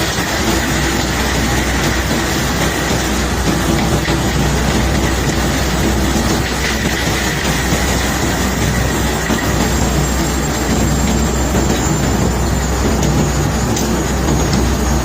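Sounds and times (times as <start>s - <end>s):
machinery rattling and grinding: 0.0s - 15.0s.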